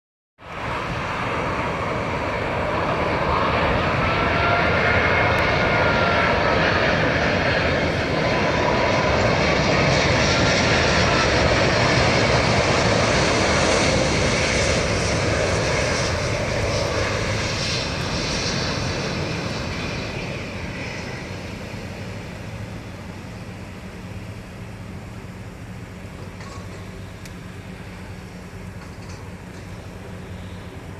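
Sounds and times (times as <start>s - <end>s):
jet engines rumbling with whine: 0.4s - 30.9s.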